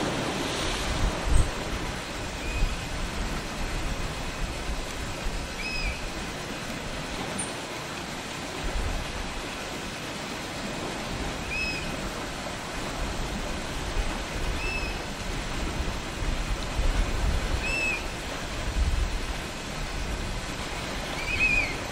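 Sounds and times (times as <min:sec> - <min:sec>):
sea surf washing over rocks: 0:00.0 - 0:21.9.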